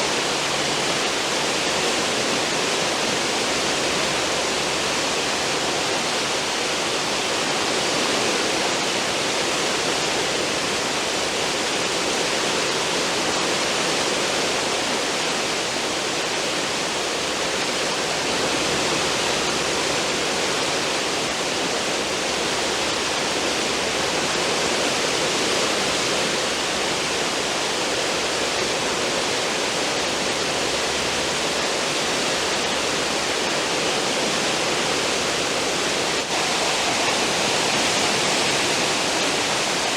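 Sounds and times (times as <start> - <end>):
ship wake water churning: 0.0 - 39.9.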